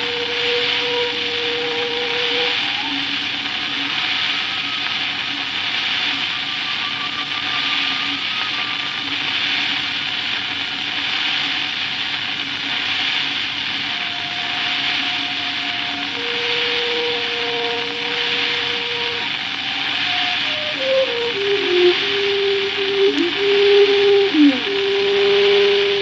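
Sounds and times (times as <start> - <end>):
faint violin notes: 0.0 - 9.6, 13.8 - 26.0
vinyl record surface hiss: 0.0 - 26.0.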